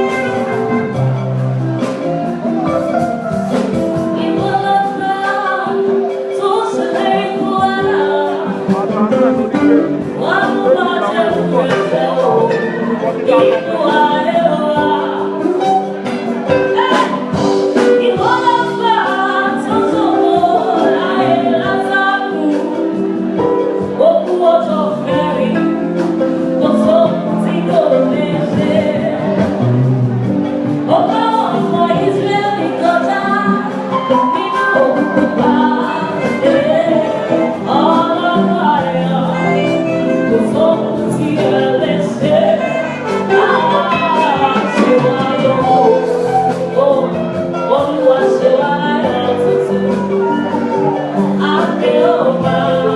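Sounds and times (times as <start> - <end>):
held chords: 0.0 - 52.9.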